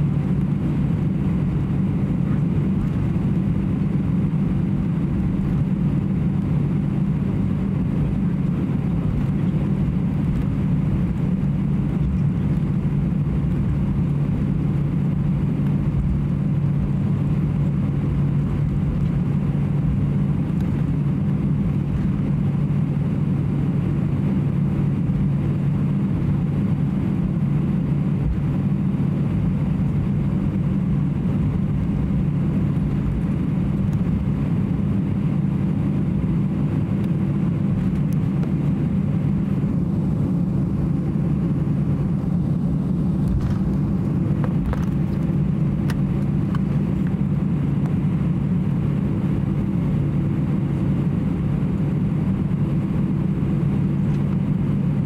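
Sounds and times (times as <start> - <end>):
airplane cabin hum and rush: 0.0 - 55.0.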